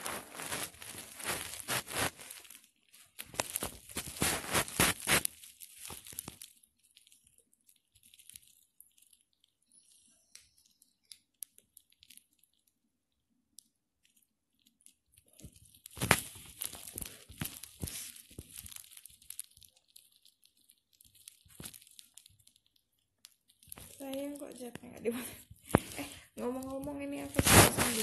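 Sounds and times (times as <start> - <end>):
packaging crinkling: 0.0 - 12.8, 13.6 - 28.0.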